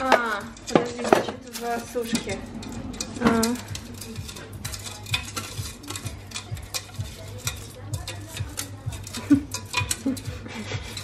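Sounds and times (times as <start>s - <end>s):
metal utensils clinking on pot: 0.0s - 11.0s.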